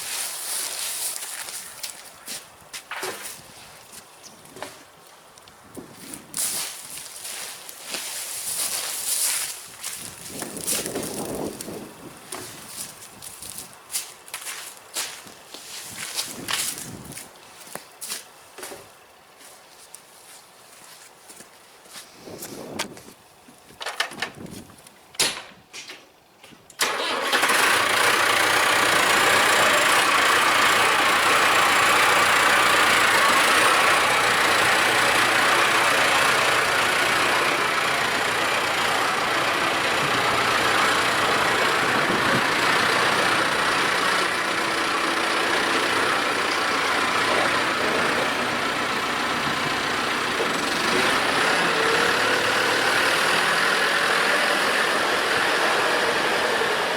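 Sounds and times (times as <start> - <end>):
tractor engine running: 0.0 - 19.4, 26.8 - 56.9.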